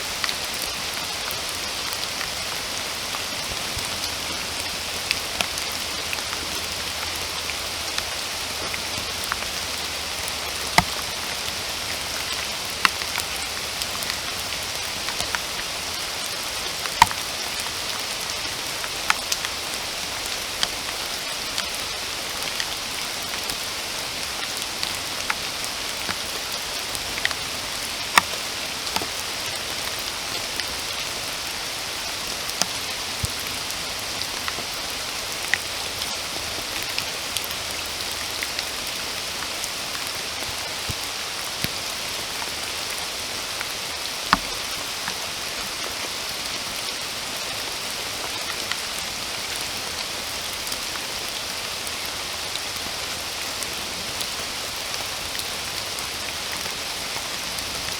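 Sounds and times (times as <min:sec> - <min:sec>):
close raindrops striking: 0:00.0 - 0:57.9
steady rain hiss: 0:00.0 - 0:57.9.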